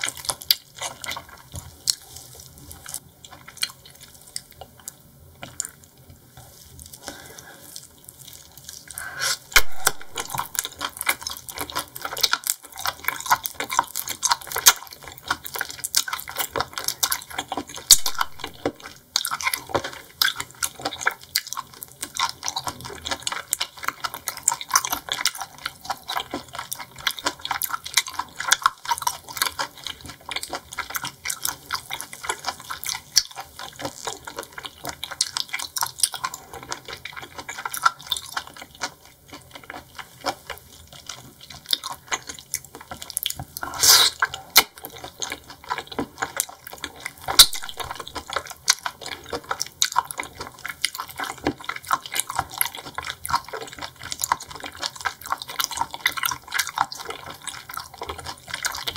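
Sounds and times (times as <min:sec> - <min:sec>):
wet chewing and squelching: 0:00.0 - 0:58.9.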